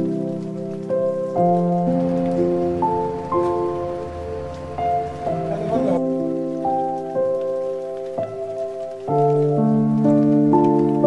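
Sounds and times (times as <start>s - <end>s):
slow sustained background music: 0.0s - 11.0s
soft rain-like hiss: 0.0s - 11.0s.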